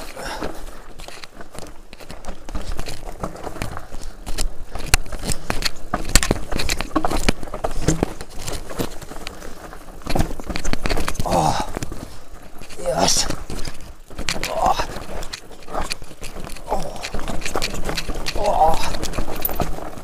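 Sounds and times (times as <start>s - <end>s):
bike clattering over rocks: 0.0s - 20.0s
tyres crunching over stones: 0.0s - 20.0s.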